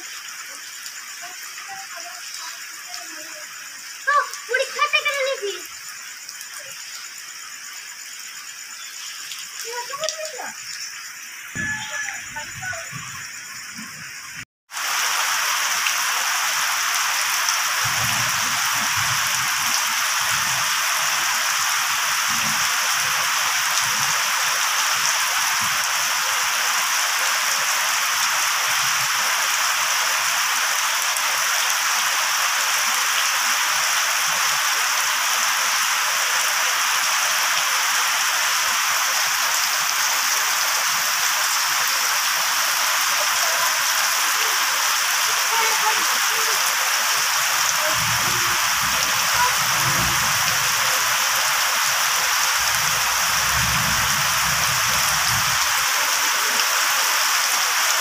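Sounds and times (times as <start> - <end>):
rain on wet ground and leaves: 0.0 - 58.0.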